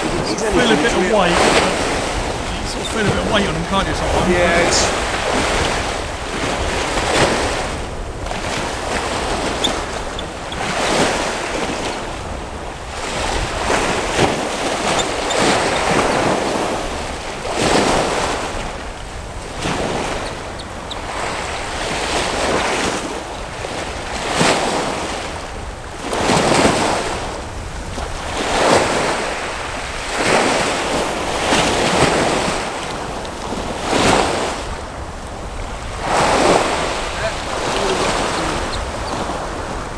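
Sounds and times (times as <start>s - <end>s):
waves washing onto stony shore: 0.0s - 39.9s
wind on microphone: 0.0s - 39.9s.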